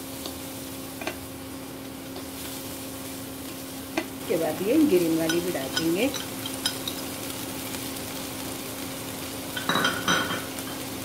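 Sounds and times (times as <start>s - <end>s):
frying sizzle: 0.0s - 11.0s
steady hum: 0.0s - 11.0s.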